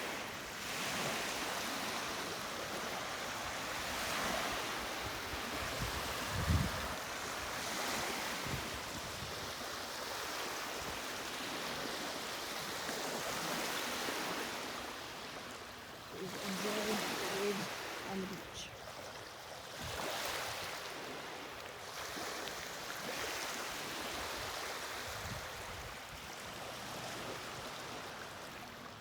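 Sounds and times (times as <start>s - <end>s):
lake waves washing onto beach: 0.0s - 29.0s.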